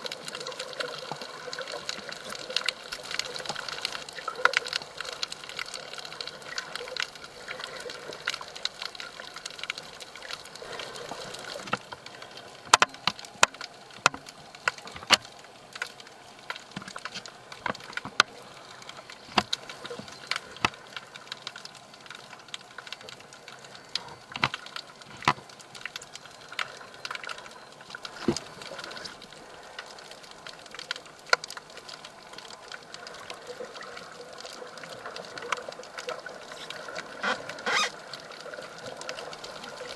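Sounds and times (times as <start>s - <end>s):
sharp clicks and crackles: 0.0s - 39.9s.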